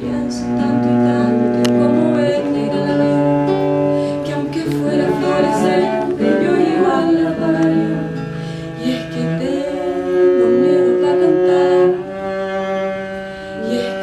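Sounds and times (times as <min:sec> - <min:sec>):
person singing: 0:00.0 - 0:12.5, 0:13.3 - 0:14.0
acoustic guitar accompaniment: 0:00.0 - 0:14.0.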